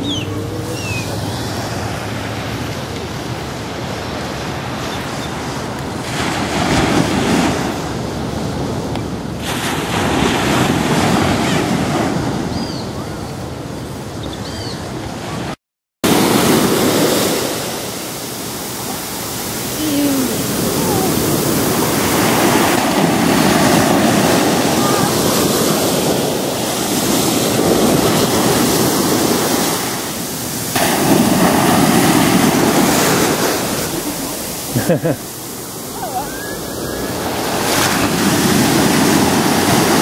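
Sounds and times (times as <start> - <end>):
ocean surf on sandy beach: 0.0 - 40.0.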